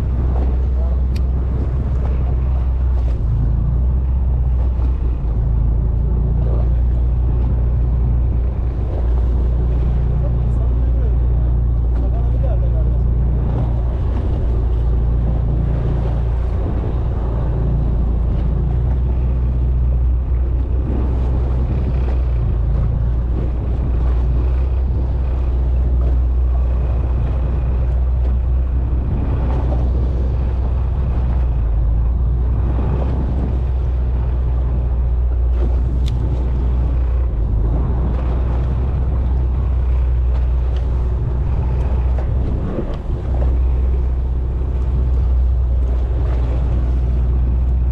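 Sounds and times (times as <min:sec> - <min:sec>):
boat engine humming: 0:00.0 - 0:47.9
wind buffeting microphone: 0:00.0 - 0:47.9.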